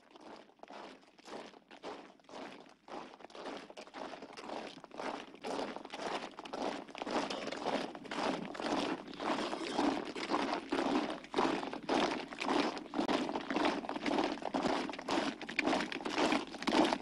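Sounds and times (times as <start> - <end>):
crunching marching footsteps: 2.4 - 17.0.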